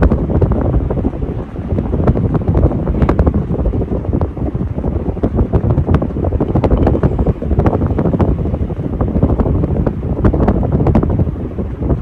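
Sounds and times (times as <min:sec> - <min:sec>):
ceiling fan wind rumble: 0:00.0 - 0:12.0.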